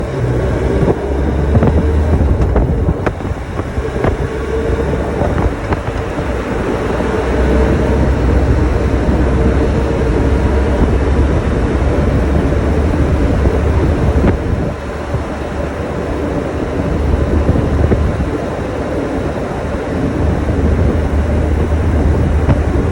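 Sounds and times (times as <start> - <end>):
motorcycle engine droning: 0.0 - 22.9.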